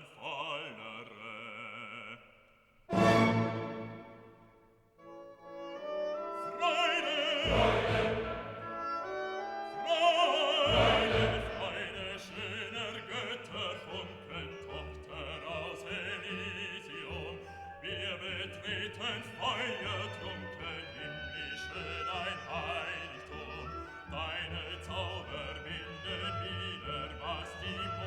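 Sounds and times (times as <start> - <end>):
operatic singing voice: 0.0 - 4.2, 6.2 - 28.0
orchestra: 2.9 - 28.0.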